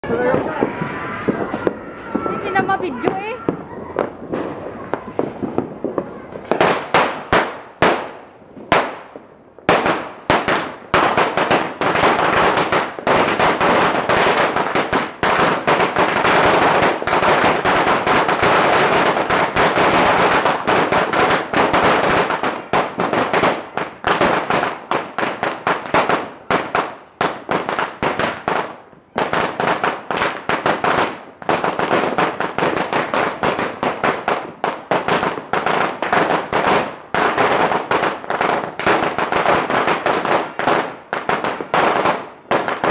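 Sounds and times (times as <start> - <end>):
firecracker bangs: 0.0 - 42.9
firecracker string crackling: 0.0 - 42.9.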